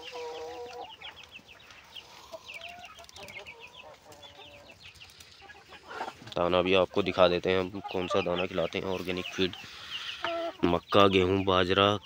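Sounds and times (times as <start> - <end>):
drawn-out chicken call: 0.0 - 10.8
chickens clucking and calling: 0.0 - 12.0.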